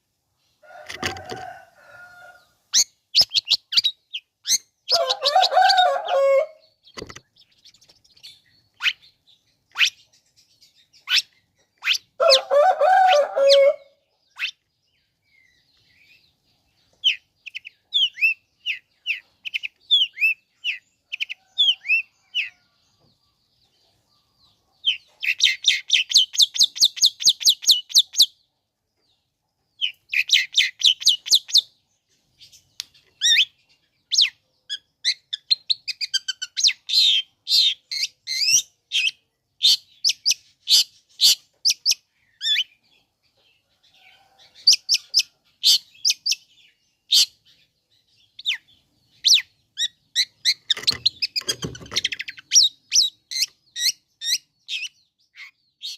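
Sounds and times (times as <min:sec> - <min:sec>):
bird singing scratchy song: 0:00.0 - 0:55.9.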